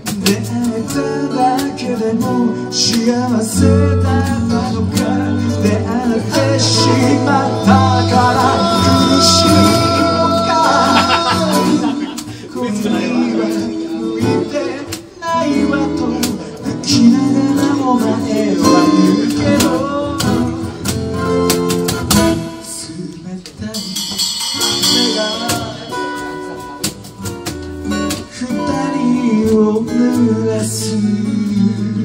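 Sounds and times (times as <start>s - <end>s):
man singing: 0.0s - 21.5s, 22.1s - 26.9s, 27.9s - 32.0s
cajon percussion: 0.0s - 32.0s
strummed acoustic guitar: 0.0s - 32.0s.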